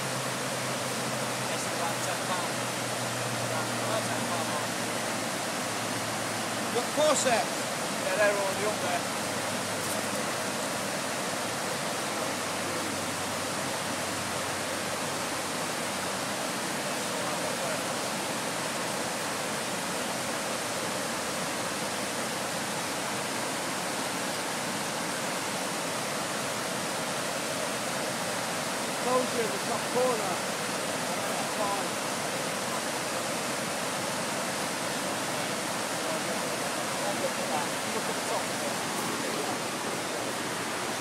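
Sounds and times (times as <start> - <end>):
flowing river water: 0.0 - 41.0.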